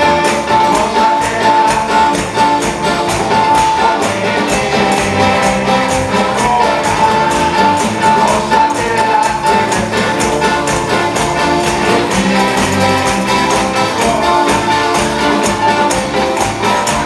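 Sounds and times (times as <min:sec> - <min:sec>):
band playing upbeat song: 0:00.0 - 0:17.0
tambourines shaken and struck: 0:00.0 - 0:17.0.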